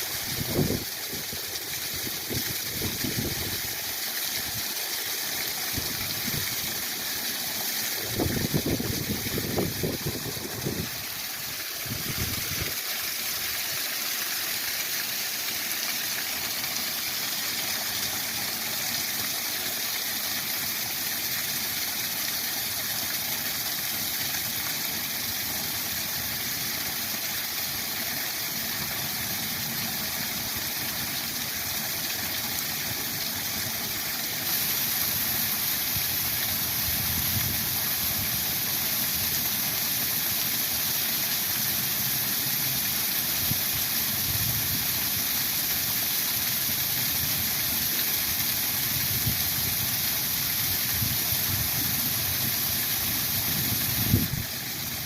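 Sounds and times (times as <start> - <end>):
waterfall rushing: 0.0 - 26.3, 27.0 - 55.0.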